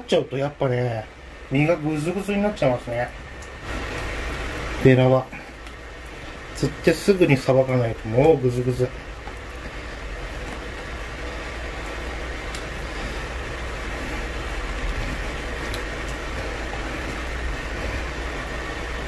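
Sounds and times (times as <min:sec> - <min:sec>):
low hum: 0:00.0 - 0:19.0
steady rushing noise: 0:00.0 - 0:19.0.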